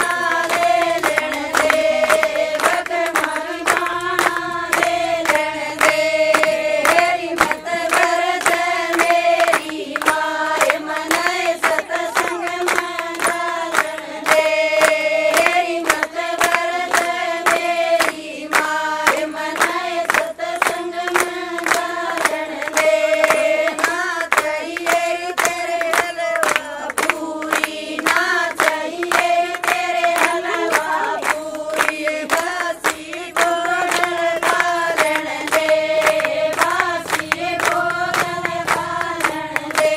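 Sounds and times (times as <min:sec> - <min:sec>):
hand-clapping on the beat: 0:00.0 - 0:39.9
women singing folk song: 0:00.0 - 0:39.9.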